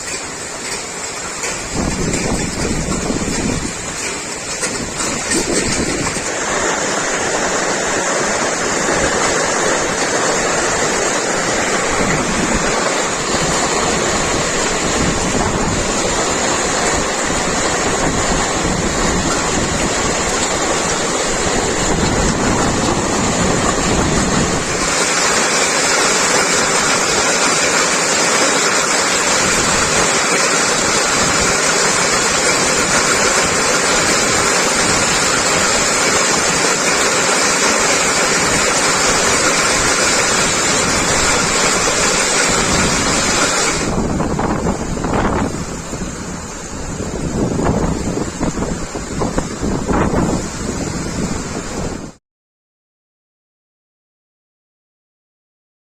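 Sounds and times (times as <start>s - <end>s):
heavy rain falling: 0.0s - 52.2s.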